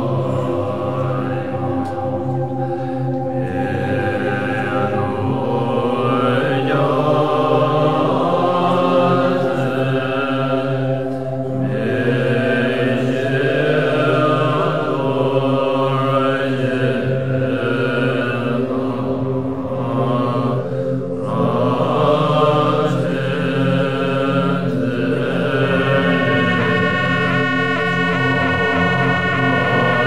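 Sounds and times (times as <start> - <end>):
monks chanting in unison: 0.0 - 30.0.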